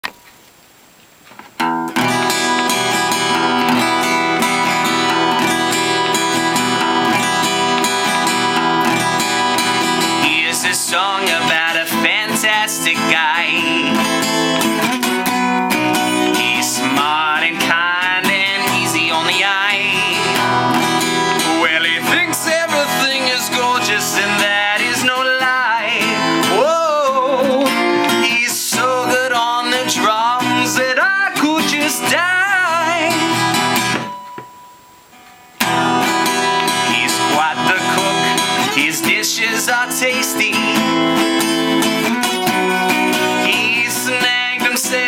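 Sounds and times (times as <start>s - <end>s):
strummed acoustic guitar music: 1.3s - 45.0s.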